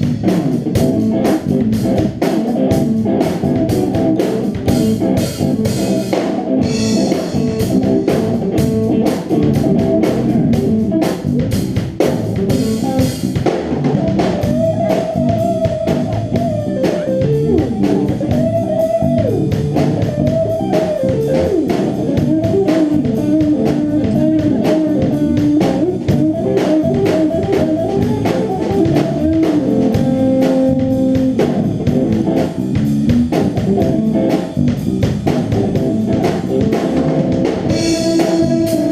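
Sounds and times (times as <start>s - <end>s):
bass guitar: 0.0s - 38.9s
bending guitar melody: 0.0s - 38.9s
drum kit beat: 0.0s - 38.9s
guitar: 0.0s - 38.9s.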